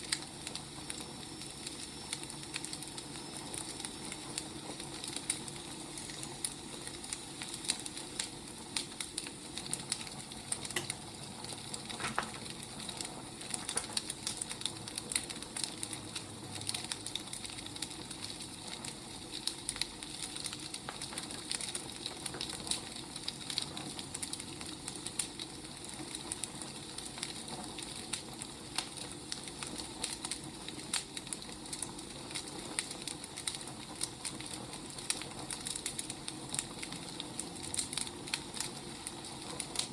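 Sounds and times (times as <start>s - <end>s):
fire hissing: 0.0s - 39.9s
firewood crackling and popping: 0.0s - 39.9s.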